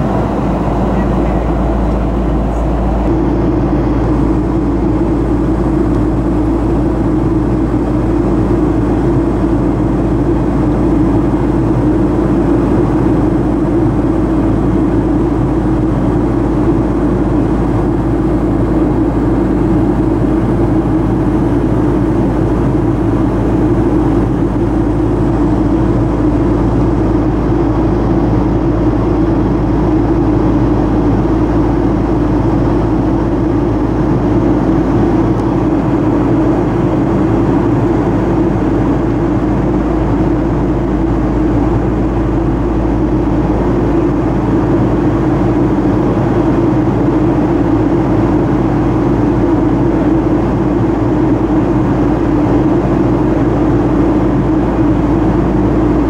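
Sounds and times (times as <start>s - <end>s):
jet airliner cabin drone: 0.0s - 56.0s.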